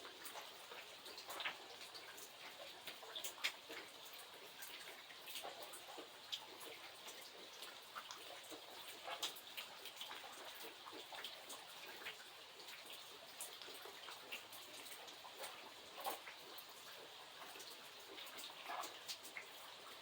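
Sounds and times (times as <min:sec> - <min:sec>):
light rain falling: 0:00.0 - 0:20.0.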